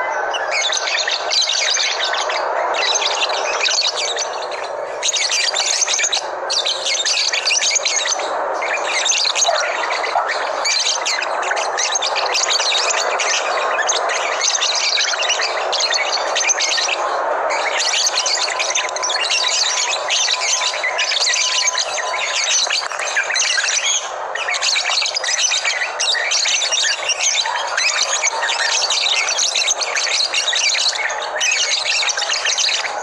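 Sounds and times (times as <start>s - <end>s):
low bird chatter: 0.0s - 33.0s
songbirds chirping and twittering: 0.0s - 33.0s.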